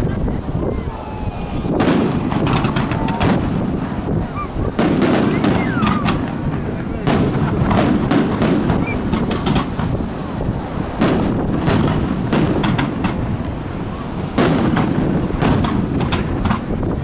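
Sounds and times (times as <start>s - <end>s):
fireworks bangs: 0.0s - 17.0s
fireworks whistling: 1.0s - 16.8s.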